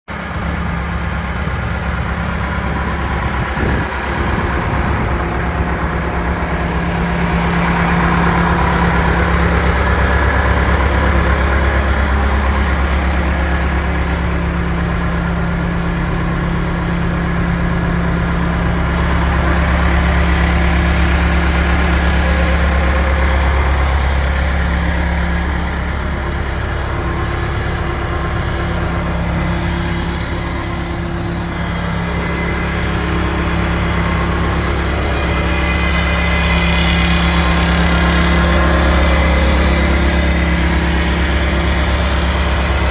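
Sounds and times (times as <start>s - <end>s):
diesel engine running: 0.1s - 42.9s.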